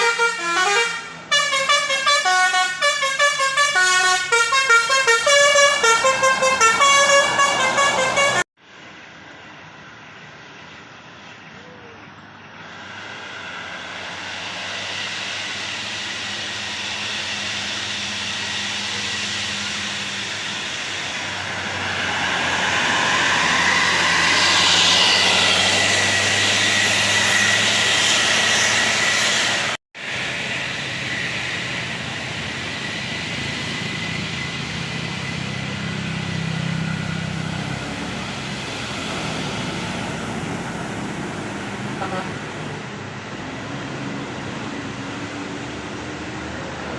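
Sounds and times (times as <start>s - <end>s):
bus engine passing: 0.0s - 46.9s
low engine hum: 5.4s - 46.9s.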